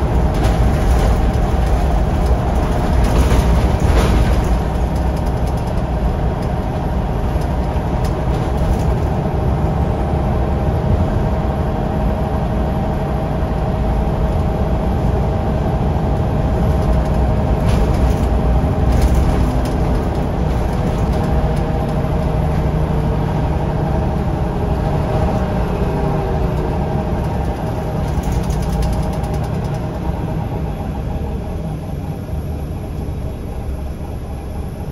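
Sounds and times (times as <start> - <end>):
bus diesel engine rumble: 0.0 - 34.9.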